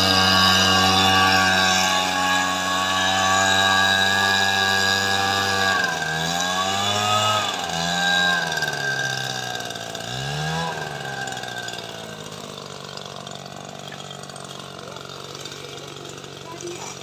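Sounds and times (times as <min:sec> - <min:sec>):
leaf blower engine revving: 0:00.0 - 0:17.0.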